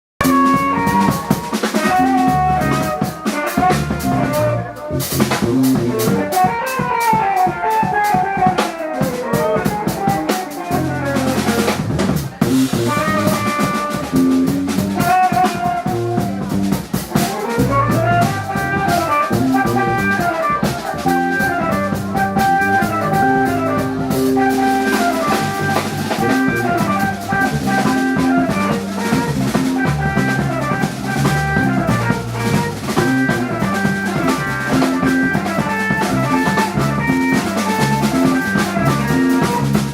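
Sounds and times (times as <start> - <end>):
drum kit: 0.2 - 39.9
live band playing: 0.2 - 39.9.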